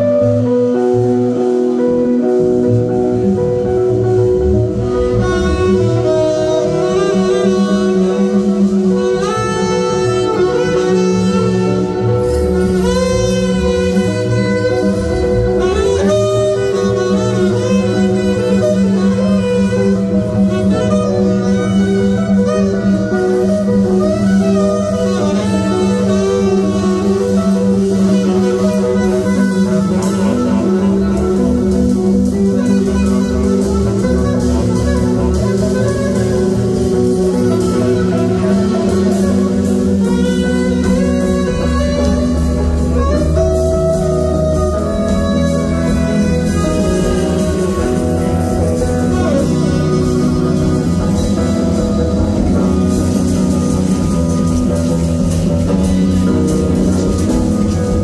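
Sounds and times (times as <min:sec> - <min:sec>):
bass line: 0:00.0 - 0:58.0
drums: 0:00.0 - 0:58.0
guitar: 0:00.0 - 0:58.0
tenor saxophone melody: 0:00.0 - 0:58.0.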